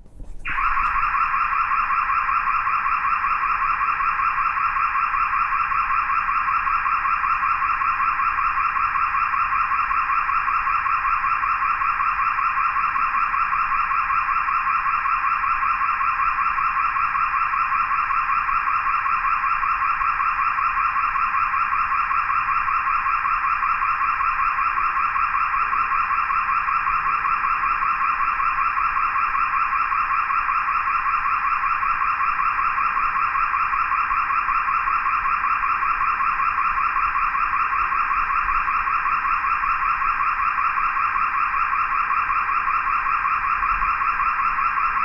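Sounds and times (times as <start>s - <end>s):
car alarm warbling: 0.0s - 45.0s.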